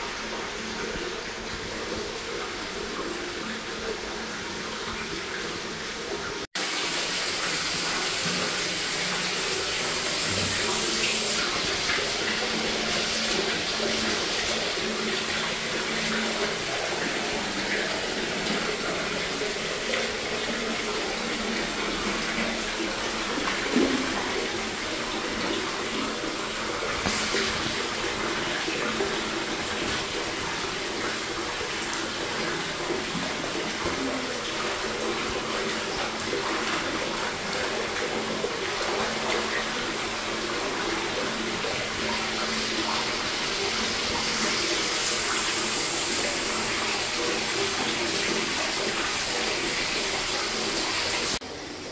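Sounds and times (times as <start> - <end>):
water pouring into pool: 0.0 - 51.9.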